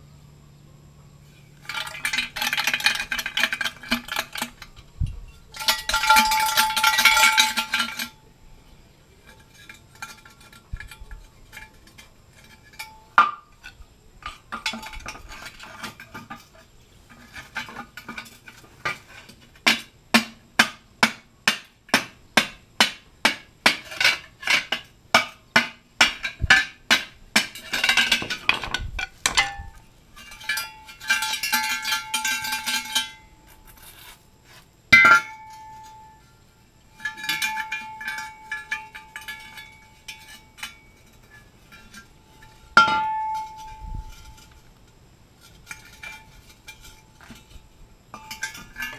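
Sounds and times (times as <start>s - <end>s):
tool scraping inside metal shell: 1.4s - 8.2s, 9.2s - 19.9s, 23.6s - 36.4s, 37.0s - 48.9s.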